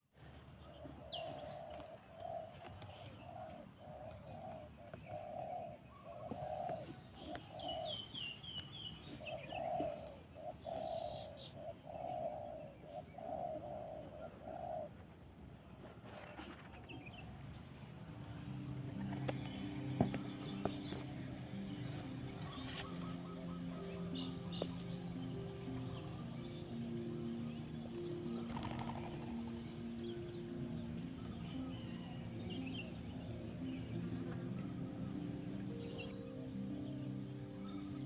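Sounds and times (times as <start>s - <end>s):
small birds chirping: 0.1s - 15.6s, 16.8s - 38.0s
bird cooing: 0.6s - 15.2s, 18.3s - 38.0s.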